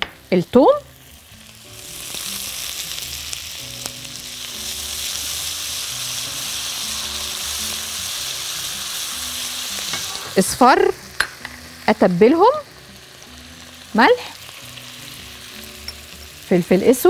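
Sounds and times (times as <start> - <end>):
soft background music: 0.0 - 17.0
onion frying in hot oil: 0.3 - 17.0.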